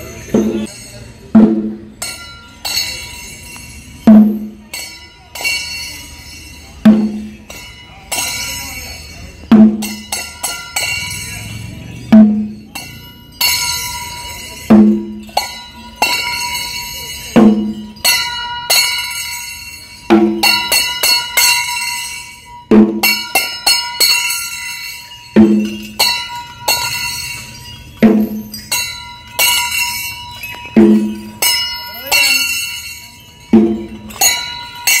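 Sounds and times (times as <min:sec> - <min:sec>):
heavy bell clang: 0:00.0 - 0:35.0
light bell clinks: 0:00.0 - 0:35.0.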